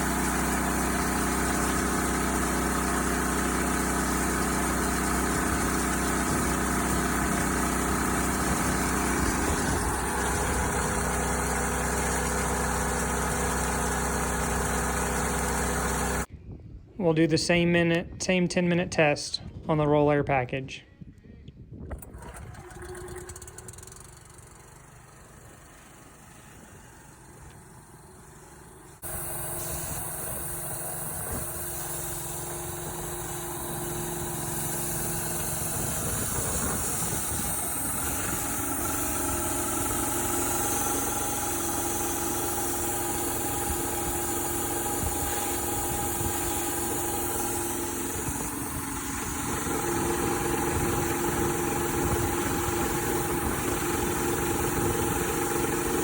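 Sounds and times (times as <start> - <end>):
engine driving air compressor: 0.0 - 16.3, 21.8 - 56.0.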